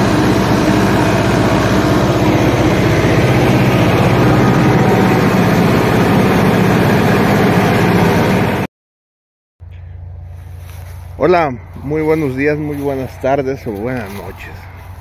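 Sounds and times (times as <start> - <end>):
tractor diesel engine under load: 0.0 - 8.7, 9.6 - 15.0.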